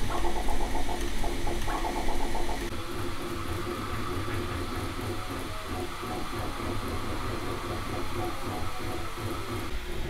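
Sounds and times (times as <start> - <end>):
printer mechanical whir: 0.0 - 10.0.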